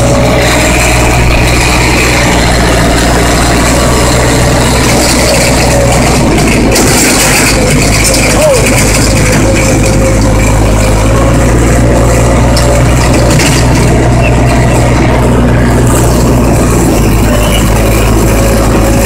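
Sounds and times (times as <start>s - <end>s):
heavy vehicle engine droning: 0.0s - 19.0s.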